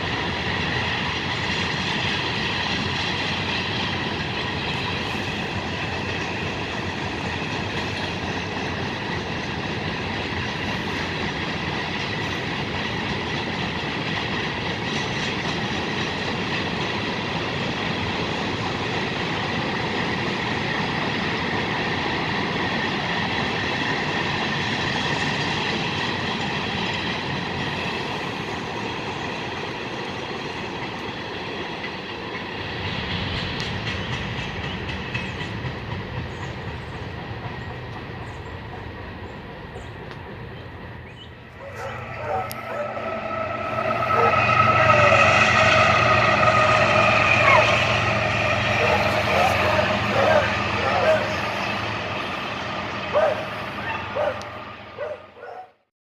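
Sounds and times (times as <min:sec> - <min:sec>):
train cars rolling on track: 0:00.0 - 0:55.8.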